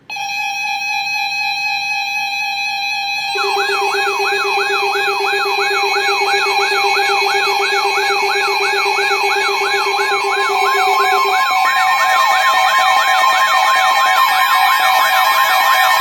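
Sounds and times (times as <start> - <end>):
electronic siren yelp: 0.0 - 16.0
steady electronic tones: 0.0 - 16.0
high electronic warble: 2.5 - 16.0.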